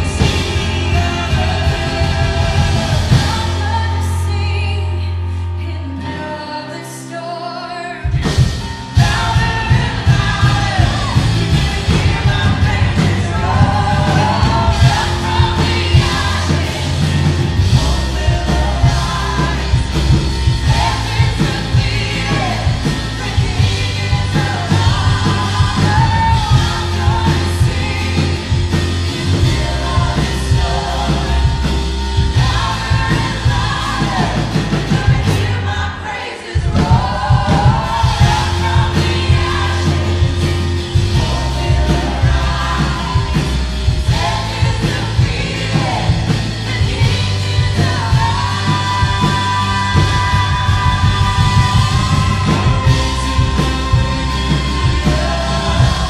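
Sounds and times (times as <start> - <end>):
drum kit: 0.0 - 5.2, 8.0 - 56.0
bass: 0.0 - 56.0
electric guitar: 0.0 - 56.0
keyboard: 0.0 - 56.0
person singing: 0.0 - 56.0.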